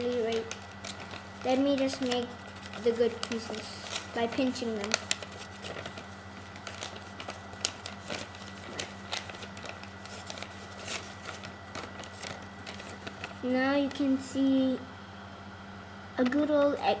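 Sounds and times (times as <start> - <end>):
paper crinkling and tapping: 0.0 - 14.0
steady electrical hum: 0.0 - 17.0.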